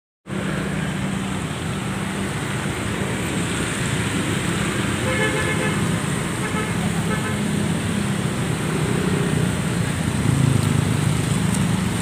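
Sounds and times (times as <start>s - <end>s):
road traffic: 0.2s - 12.0s.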